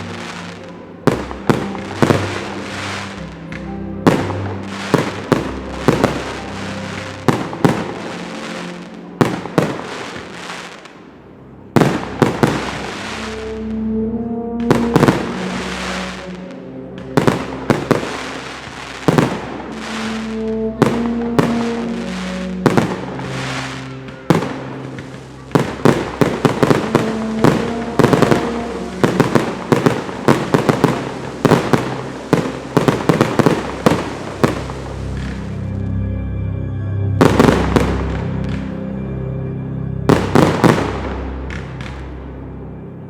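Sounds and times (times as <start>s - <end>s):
fireworks bangs and crackle: 0.0s - 11.0s, 11.8s - 13.5s, 14.6s - 16.3s, 17.0s - 35.5s, 37.2s - 38.6s, 40.1s - 42.0s
music: 0.0s - 43.0s.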